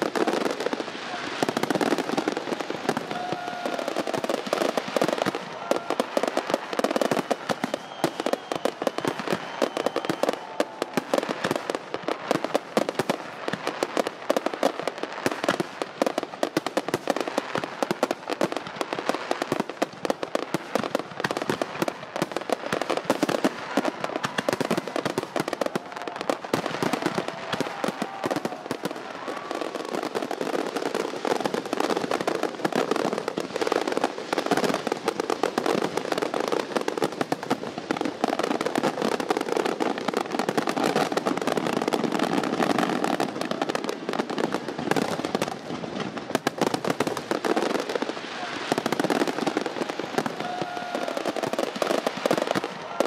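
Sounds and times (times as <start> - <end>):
fireworks crackling and popping: 0.0 - 53.0.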